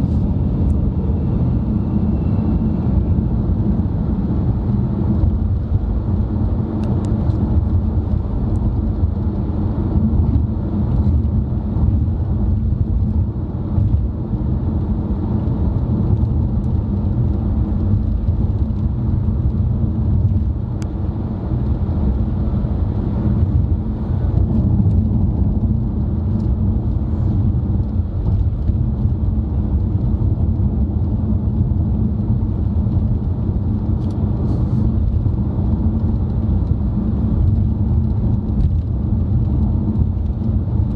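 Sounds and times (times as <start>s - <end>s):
car cabin road rumble: 0.0s - 40.9s.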